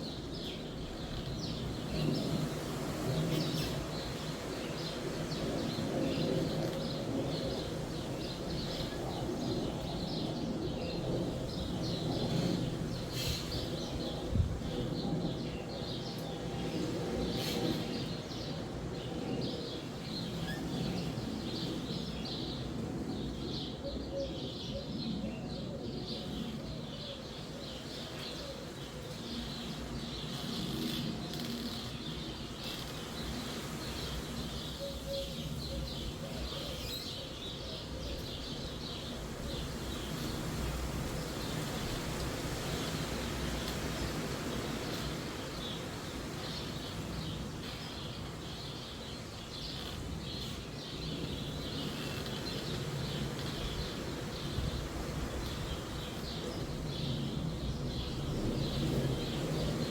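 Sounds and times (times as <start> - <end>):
wind through forest: 0.0 - 59.9.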